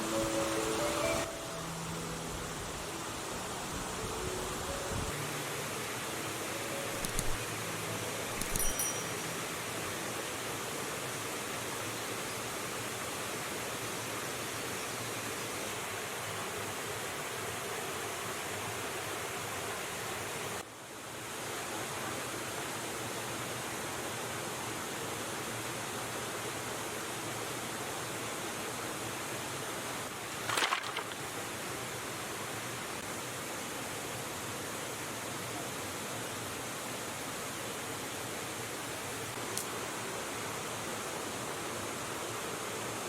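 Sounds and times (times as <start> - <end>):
rushing river water: 0.0 - 43.0.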